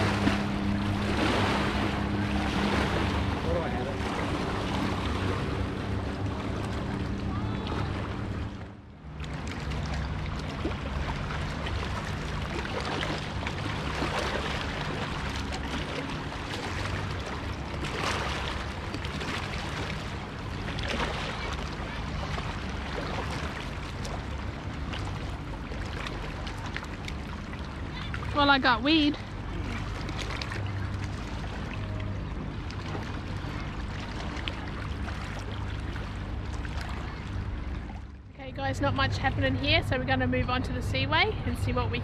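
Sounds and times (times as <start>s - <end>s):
water lapping against rocks: 0.0s - 38.1s
steady low rumble: 0.0s - 42.0s.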